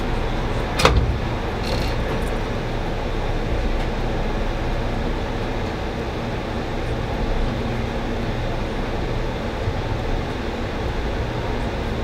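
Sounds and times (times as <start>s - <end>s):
diesel locomotive rumble: 0.0s - 12.0s.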